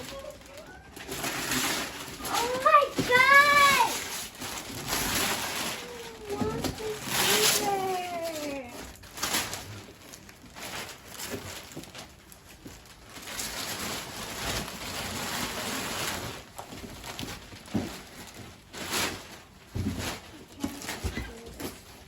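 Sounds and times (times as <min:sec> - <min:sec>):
packaging rustling and crinkling: 0:00.0 - 0:22.0.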